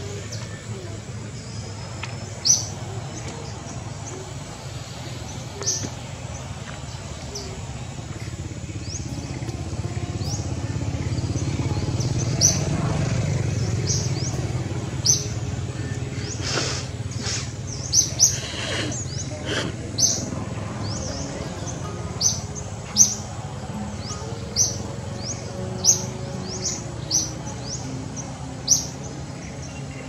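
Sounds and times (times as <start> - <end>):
birds chirping: 0.0 - 30.0
passing motor vehicle hum: 0.0 - 30.0.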